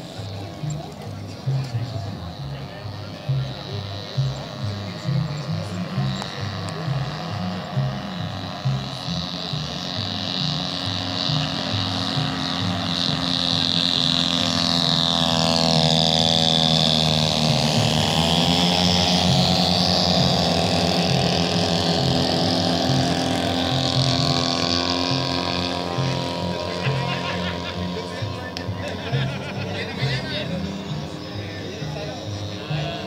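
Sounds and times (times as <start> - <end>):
model airplane engine running: 0.0 - 33.0.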